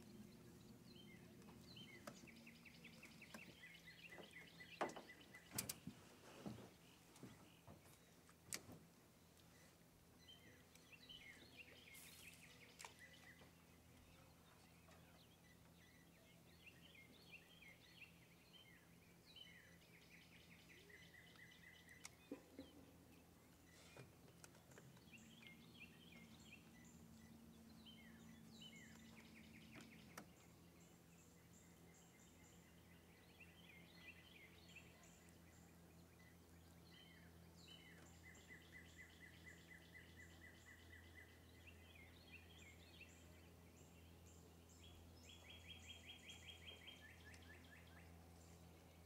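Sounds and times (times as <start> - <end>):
faint small birds chirping: 0.0 - 49.0
low steady hum: 0.0 - 49.0.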